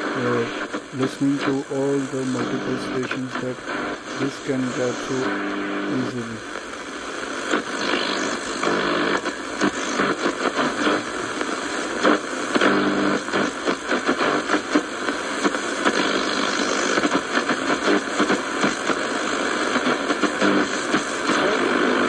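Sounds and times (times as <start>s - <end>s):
radio crackles: 0.0s - 22.0s
radio shortwave static hiss: 0.0s - 22.0s.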